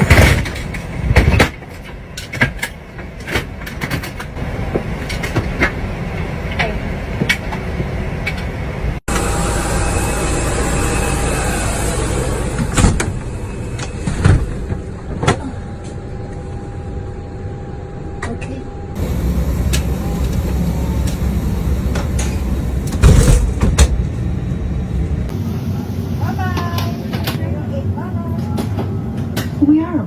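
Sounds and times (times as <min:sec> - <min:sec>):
airliner cabin rumble: 0:00.0 - 0:29.7.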